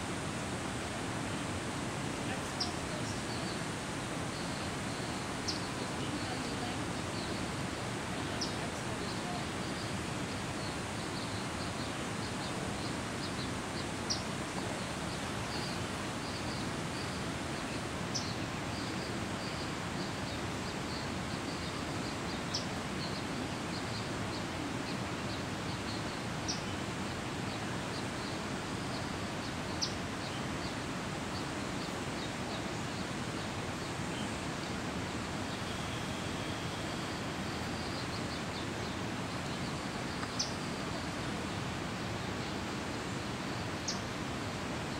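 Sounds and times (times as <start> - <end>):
steady rushing hiss: 0.0 - 44.9.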